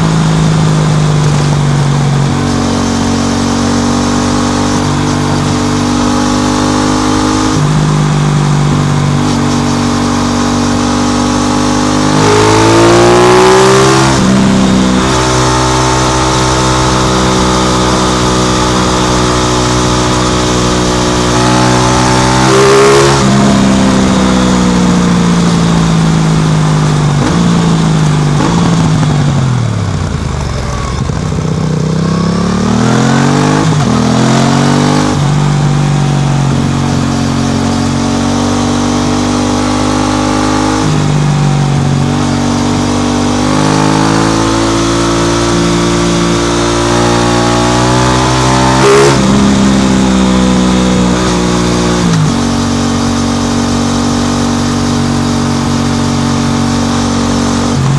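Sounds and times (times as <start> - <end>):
motorcycle engine revving through gears: 0.0 - 57.9.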